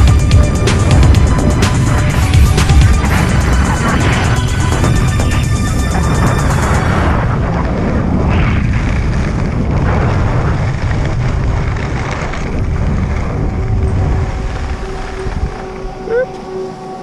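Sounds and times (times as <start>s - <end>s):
sliding over snow: 0.0s - 17.0s
wind buffeting microphone: 0.0s - 17.0s.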